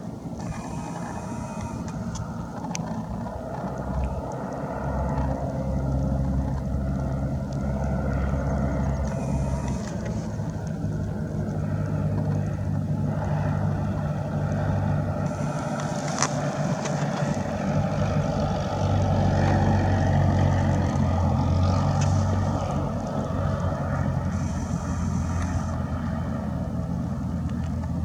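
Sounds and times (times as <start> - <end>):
propeller aircraft engine drone: 0.0 - 28.0.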